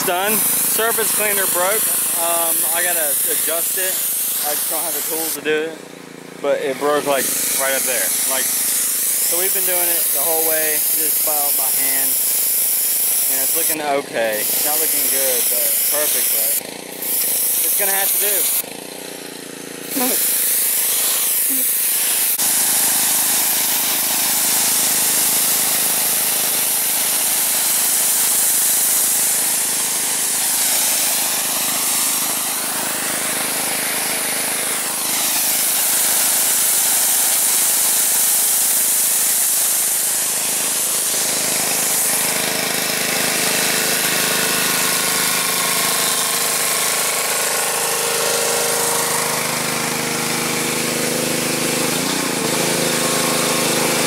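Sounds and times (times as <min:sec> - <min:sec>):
high-pressure spray hissing: 0:00.0 - 0:05.6, 0:06.6 - 0:18.7, 0:19.8 - 0:54.0
pressure washer engine running: 0:00.0 - 0:54.0.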